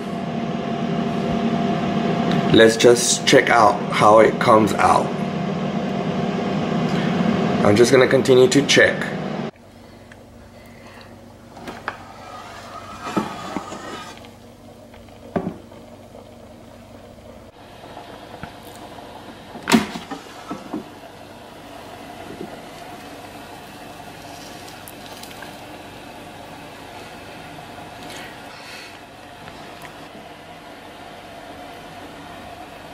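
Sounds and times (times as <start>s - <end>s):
air fryer fan hum: 0.0s - 32.9s.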